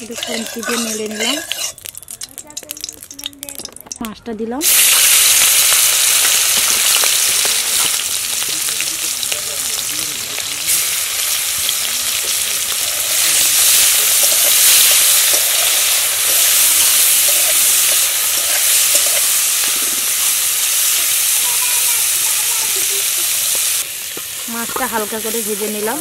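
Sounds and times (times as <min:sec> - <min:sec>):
metal spatula turning food: 0:00.0 - 0:26.0
prawns sizzling in oil: 0:00.0 - 0:26.0.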